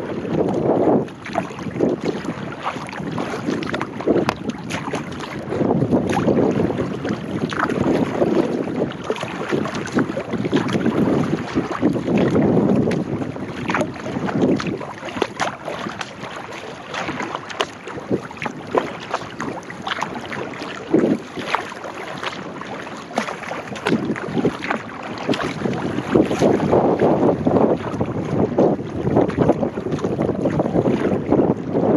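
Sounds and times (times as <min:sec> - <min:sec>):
kayak paddle splashing: 0:00.0 - 0:31.9
water sloshing along hull: 0:00.0 - 0:31.9
wind gusts on microphone: 0:00.0 - 0:31.9.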